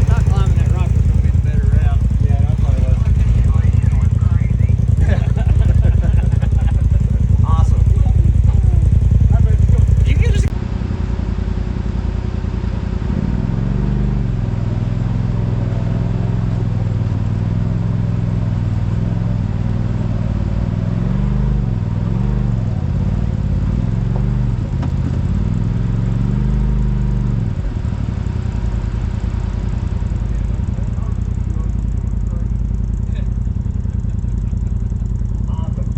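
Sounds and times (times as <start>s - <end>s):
off-road vehicle engine revving: 0.0s - 35.9s.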